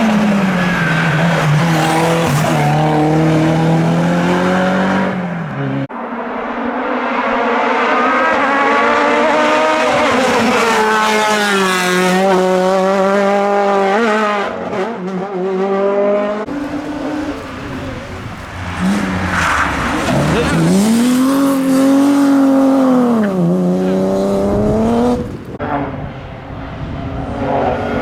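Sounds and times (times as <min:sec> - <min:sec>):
race car engine at high revs: 0:00.0 - 0:28.0.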